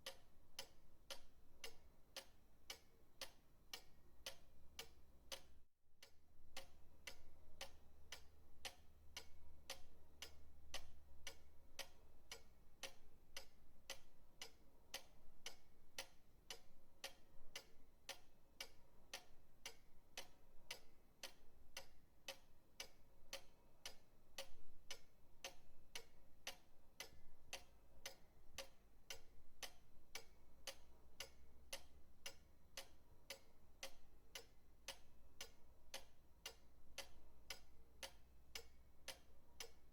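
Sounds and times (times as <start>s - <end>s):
pendulum clock ticking: 0.0s - 39.9s.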